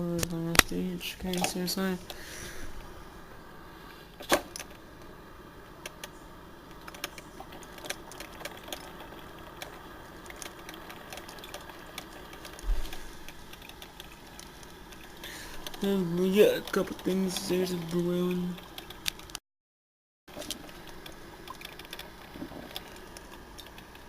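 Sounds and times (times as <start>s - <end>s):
heating water popping and clicking: 0.0s - 2.9s, 5.7s - 19.4s, 20.3s - 24.0s
steady low hiss: 0.0s - 19.4s.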